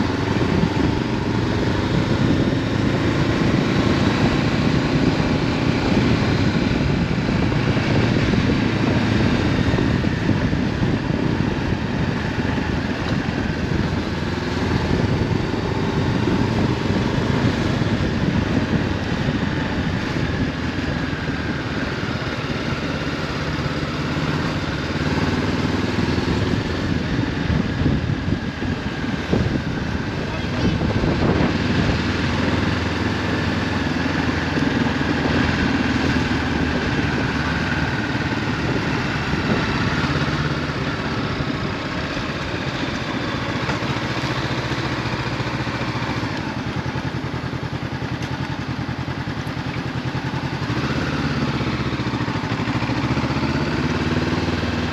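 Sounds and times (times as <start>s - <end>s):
motorcycle engine running: 0.0s - 54.9s
road noise rushing: 0.0s - 54.9s.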